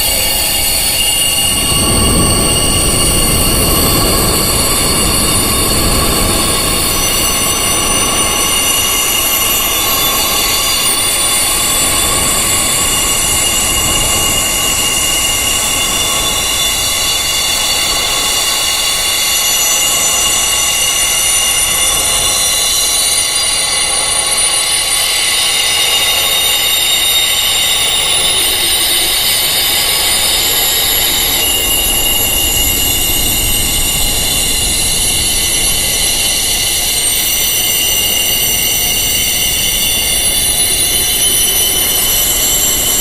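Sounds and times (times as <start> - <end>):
wind chimes ringing: 0.0 - 43.0.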